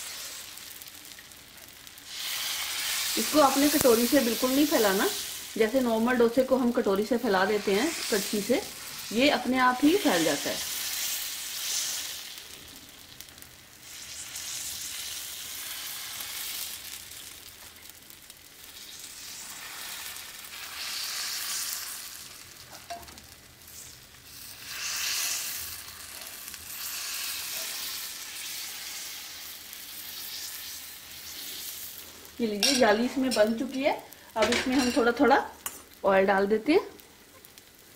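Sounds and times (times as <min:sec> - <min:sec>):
batter sizzling on hot griddle: 0:00.0 - 0:37.9.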